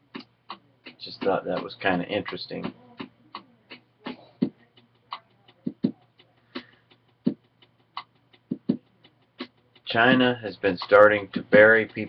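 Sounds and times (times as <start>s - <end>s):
sharp clicks and taps: 0.1s - 12.0s.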